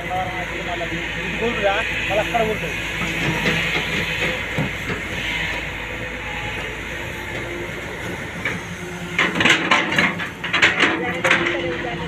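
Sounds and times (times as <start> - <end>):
excavator engine and hydraulics drone: 0.0 - 12.0.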